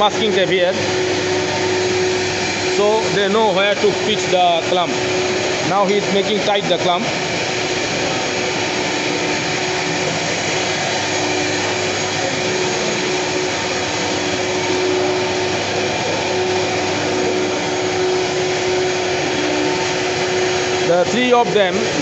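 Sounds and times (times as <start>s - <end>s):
machinery whirring drone: 0.0s - 22.0s.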